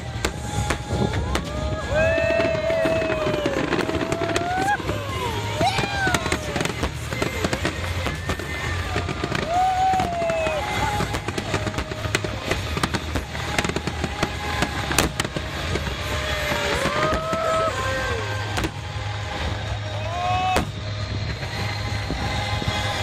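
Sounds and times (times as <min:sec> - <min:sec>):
fireworks bangs and crackling: 0:00.0 - 0:23.0
low rumble: 0:00.0 - 0:23.0.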